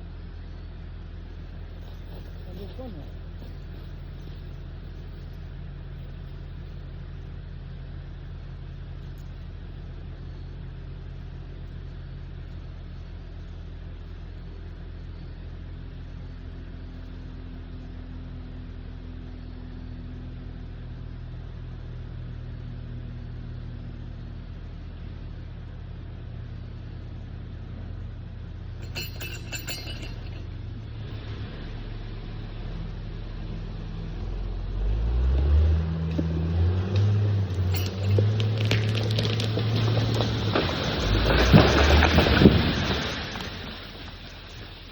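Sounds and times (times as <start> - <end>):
engine idling: 0.0 - 30.9, 36.0 - 44.9.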